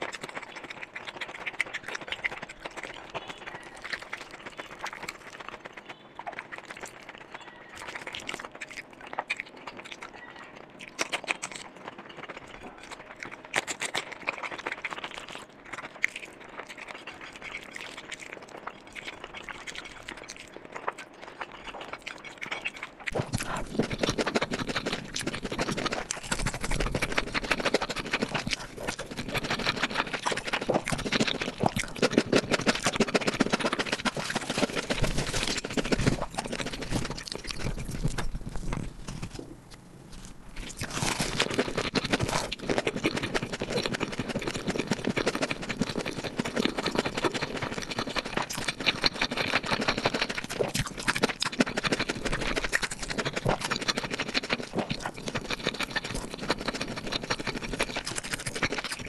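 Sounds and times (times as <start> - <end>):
person chewing: 0.0 - 59.0.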